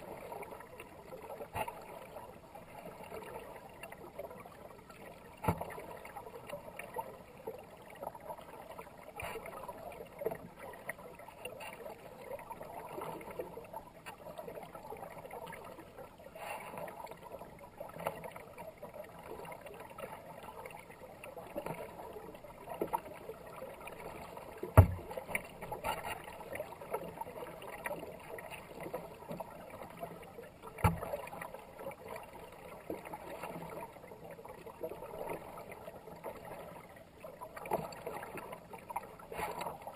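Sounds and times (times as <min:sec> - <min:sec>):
kayak paddle splashing: 0:00.0 - 0:39.9
water rushing and gurgling: 0:00.0 - 0:39.9.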